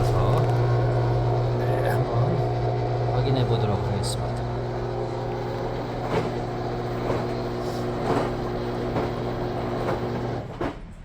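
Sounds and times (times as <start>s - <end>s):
drain pump motor humming and grinding: 0.0s - 10.5s.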